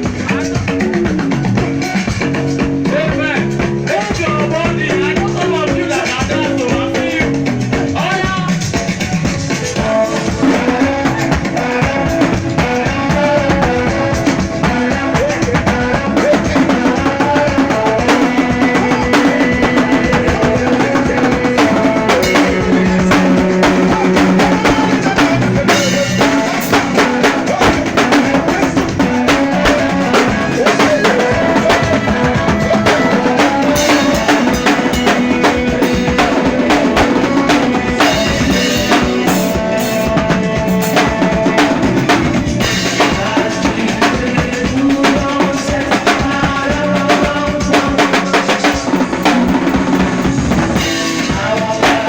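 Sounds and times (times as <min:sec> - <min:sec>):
band music: 0:00.0 - 0:52.0
fast drum kit playing: 0:00.0 - 0:52.0.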